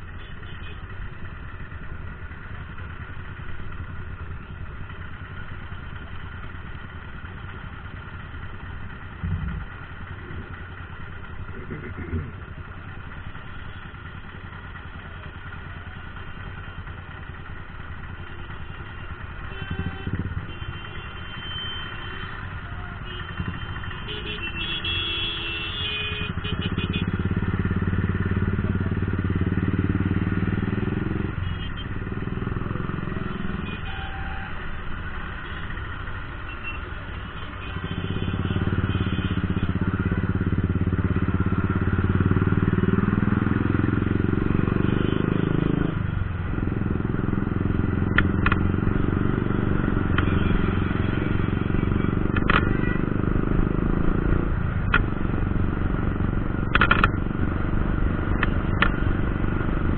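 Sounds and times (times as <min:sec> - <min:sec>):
hum of traffic: 0:00.0 - 0:59.9
motorcycle engine idling: 0:00.0 - 0:59.9.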